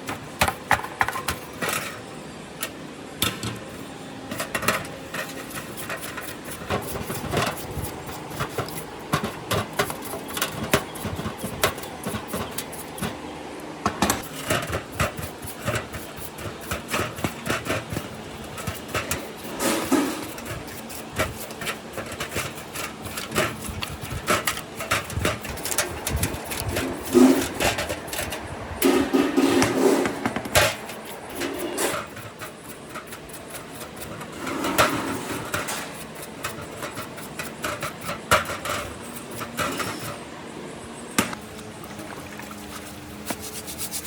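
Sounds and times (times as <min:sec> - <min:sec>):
hand tools tapping metal parts: 0:04.3 - 0:13.2, 0:13.8 - 0:40.2.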